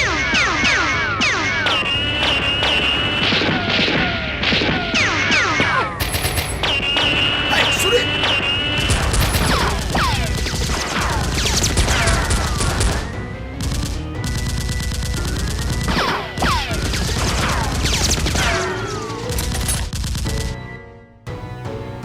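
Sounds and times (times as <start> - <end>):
machine-gun fire sound effects: 0.0 - 20.5
background music: 0.0 - 22.0.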